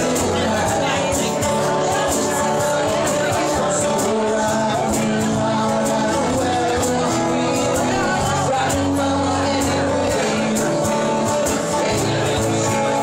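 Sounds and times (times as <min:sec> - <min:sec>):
acoustic guitars: 0:00.0 - 0:13.0
man singing: 0:00.0 - 0:13.0.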